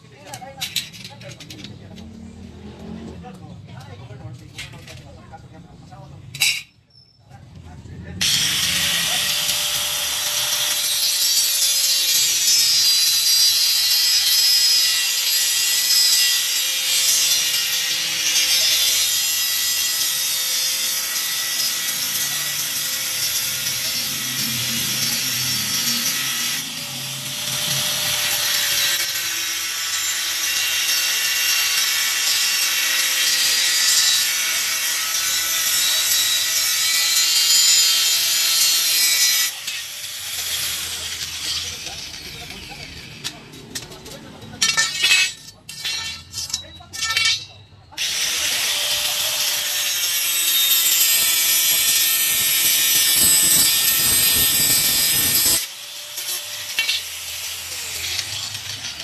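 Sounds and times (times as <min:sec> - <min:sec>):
angle grinder cutting steel: 0:08.1 - 0:59.0.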